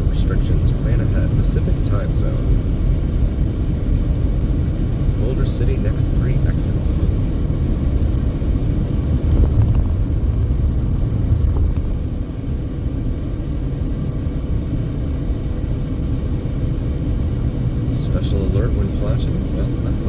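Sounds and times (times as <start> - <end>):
car driving at highway speed: 0.0 - 20.0.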